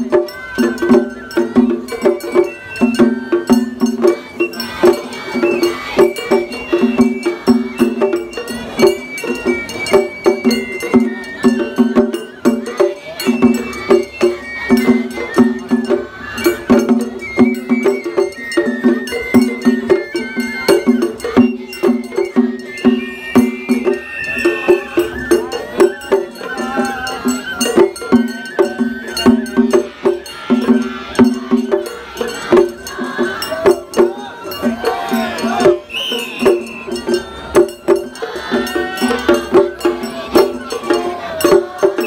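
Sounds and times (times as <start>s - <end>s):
bamboo flute melody: 0.0s - 42.0s
taiko drums beating: 0.0s - 42.0s.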